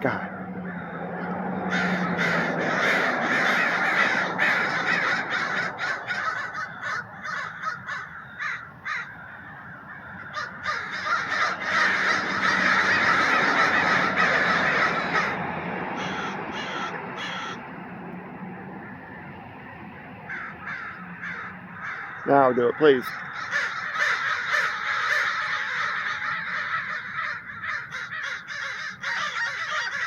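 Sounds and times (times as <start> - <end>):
crows cawing: 0.0 - 17.8, 18.6 - 30.0.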